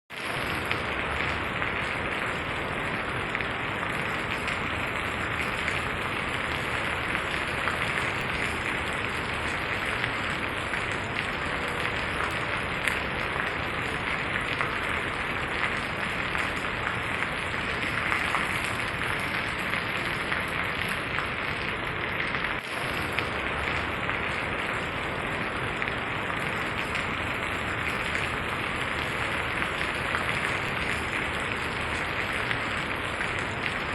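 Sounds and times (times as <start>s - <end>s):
rain falling on ground: 0.1s - 33.9s.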